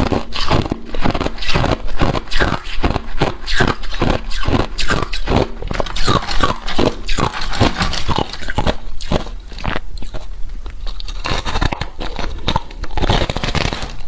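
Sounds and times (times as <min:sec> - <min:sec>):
scraping freezer frost: 0:00.0 - 0:14.0.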